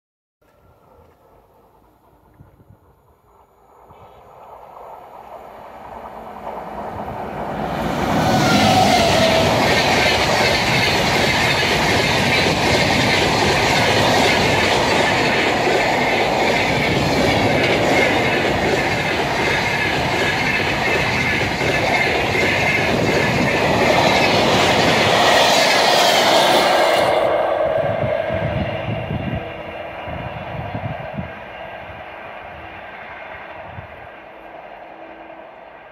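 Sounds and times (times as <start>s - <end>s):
train wheels rushing on rails: 0.9s - 35.9s.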